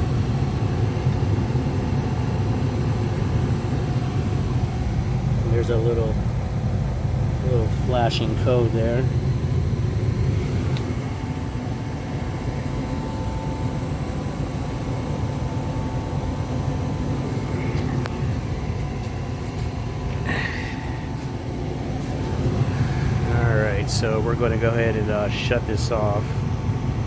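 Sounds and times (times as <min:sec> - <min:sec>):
faint steady whine: 0:00.0 - 0:27.0
gas furnace humming: 0:00.0 - 0:27.0.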